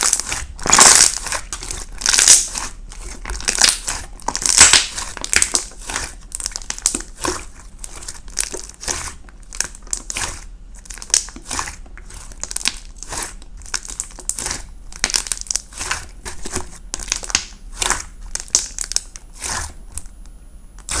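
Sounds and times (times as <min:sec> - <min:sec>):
crinkling and rustling: 0:00.0 - 0:20.2.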